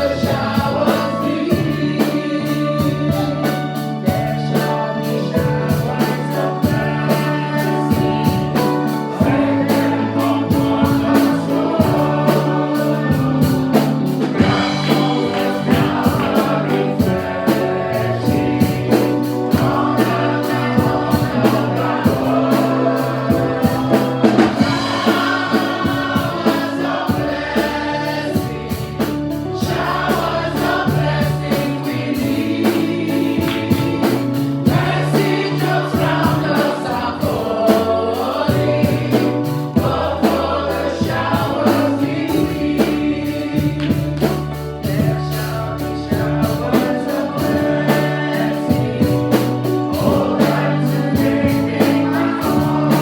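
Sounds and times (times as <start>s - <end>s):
choir singing: 0.0s - 53.0s
held keyboard notes: 0.0s - 53.0s
steady drum beat: 0.0s - 53.0s.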